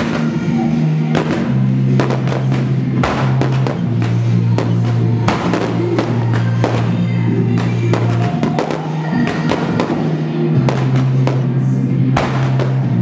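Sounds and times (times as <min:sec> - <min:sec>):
fireworks bangs and crackles: 0:00.0 - 0:13.0
loud music with bass and drums: 0:00.0 - 0:13.0.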